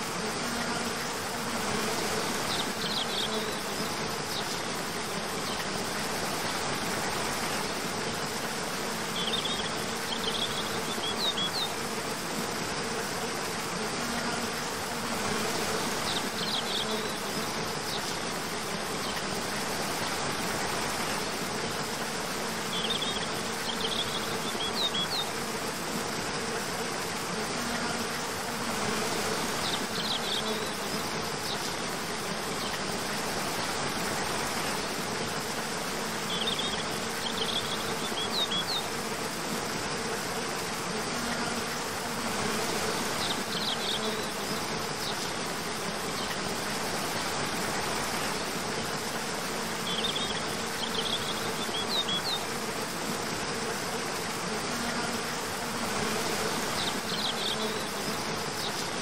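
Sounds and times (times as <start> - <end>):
insect buzzing hum: 0.0 - 59.0.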